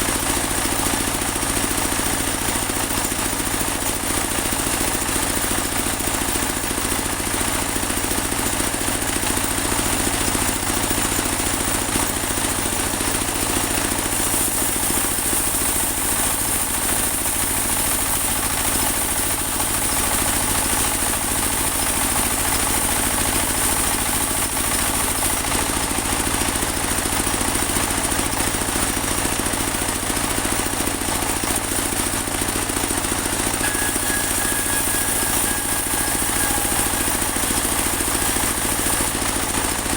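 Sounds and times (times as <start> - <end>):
sawmill engine drone: 0.0 - 26.4, 30.6 - 39.9.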